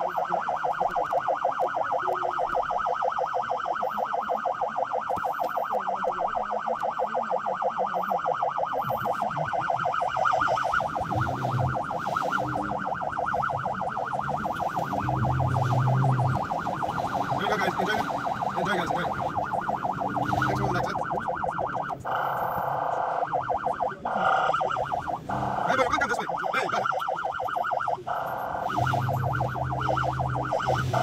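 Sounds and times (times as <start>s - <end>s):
ambulance siren warbling: 0.0s - 31.0s
deep steady siren tone: 0.0s - 31.0s.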